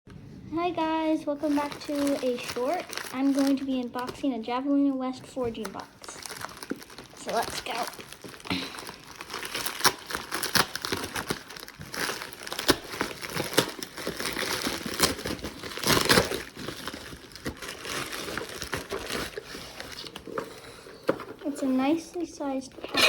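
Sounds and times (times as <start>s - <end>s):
packaging crinkling and rustling: 0.8s - 22.9s.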